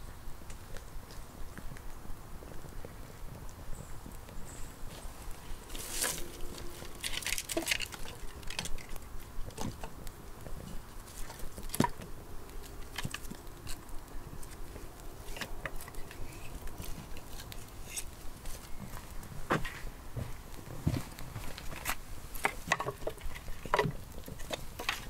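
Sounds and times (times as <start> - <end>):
wood and twigs crackling: 0.0 - 25.0.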